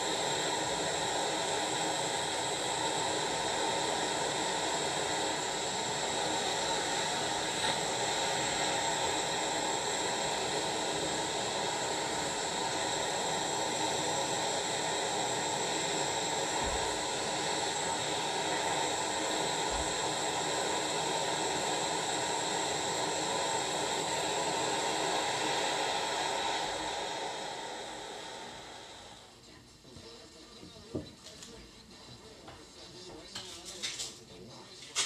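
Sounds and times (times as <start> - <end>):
gas torch hissing: 0.0 - 29.3.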